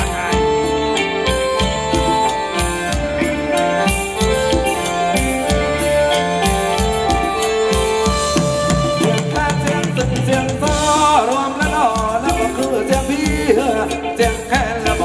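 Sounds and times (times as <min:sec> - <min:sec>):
wavering melody line: 0:00.0 - 0:13.4
live band dance music: 0:00.0 - 0:15.0
steady drum beat: 0:00.0 - 0:15.0.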